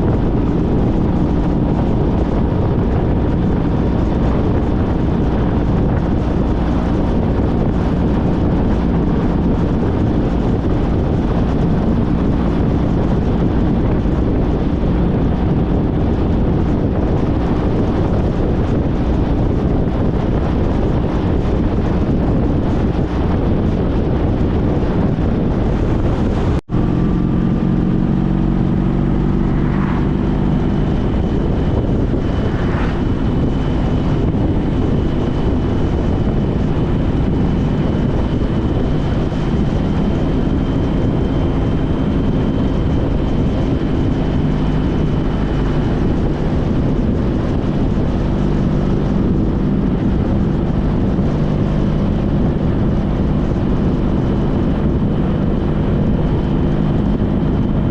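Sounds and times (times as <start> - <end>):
motorcycle engine running: 0.0 - 57.9
wind rush: 0.0 - 57.9.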